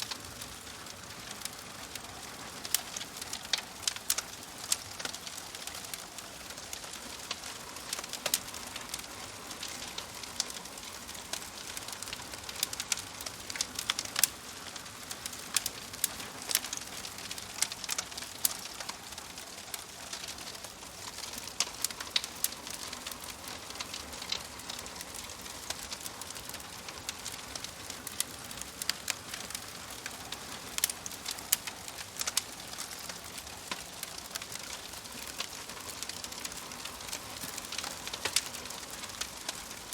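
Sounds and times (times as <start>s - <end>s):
fire crackling and popping: 0.0s - 39.9s
soft hiss of fire: 0.0s - 39.9s.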